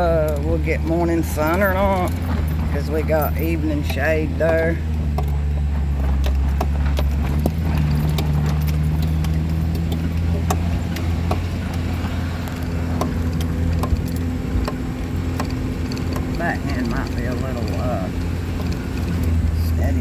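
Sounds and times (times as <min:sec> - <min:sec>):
knocks and rattles: 0:00.0 - 0:20.0
vehicle engine running low: 0:00.0 - 0:20.0.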